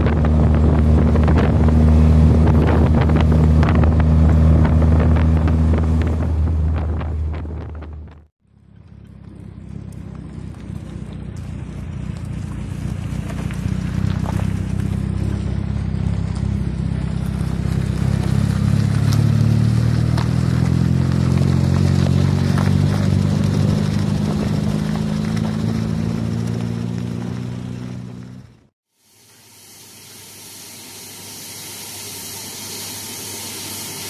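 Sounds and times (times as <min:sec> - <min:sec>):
car engine running: 0:00.0 - 0:28.7
gravel crackling under tyres: 0:00.0 - 0:28.7.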